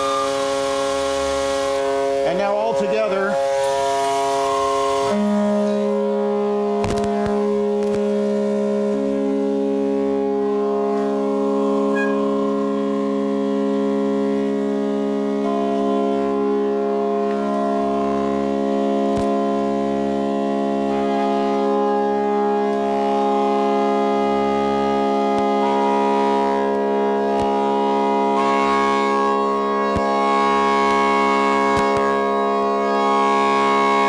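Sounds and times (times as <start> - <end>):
organ pipes holding a note: 0.0 - 34.0.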